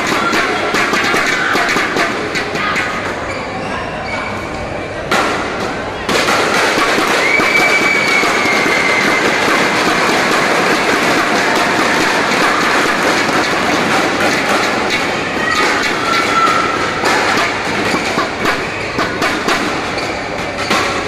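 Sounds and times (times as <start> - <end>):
crowd chattering: 0.0 - 21.0.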